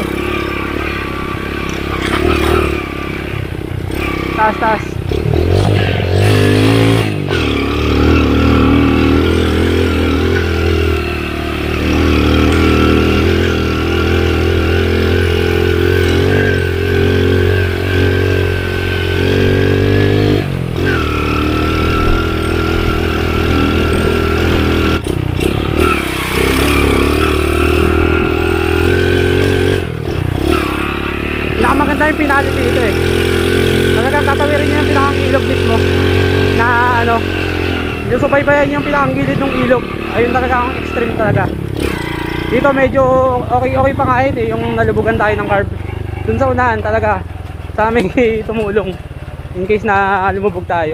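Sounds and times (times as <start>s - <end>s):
motorcycle engine under load: 0.0s - 50.9s.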